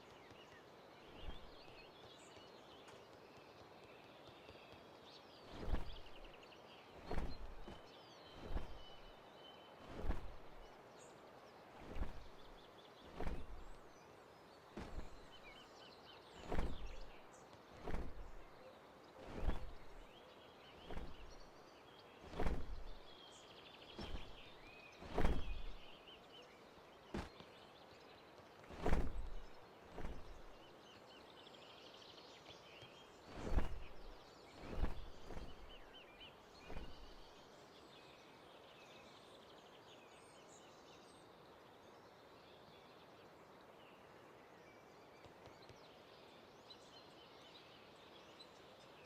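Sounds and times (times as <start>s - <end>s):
faint bird chirps: 0.0s - 49.0s.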